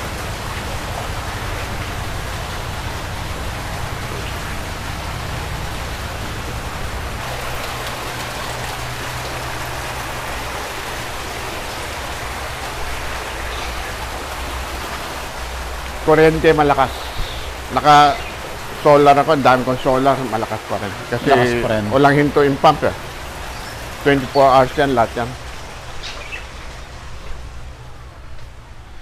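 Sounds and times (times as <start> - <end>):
water rushing and splashing: 0.0 - 29.0.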